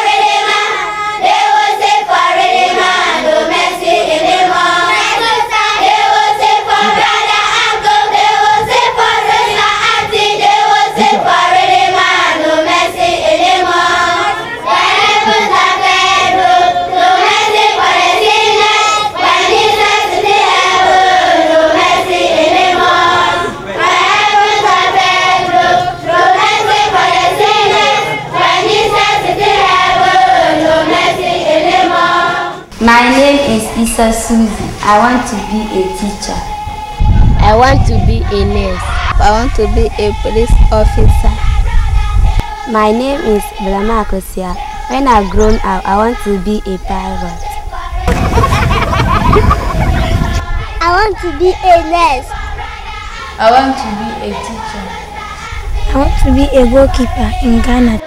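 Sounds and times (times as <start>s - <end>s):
girls singing in chorus: 0.0s - 37.2s, 38.3s - 58.0s.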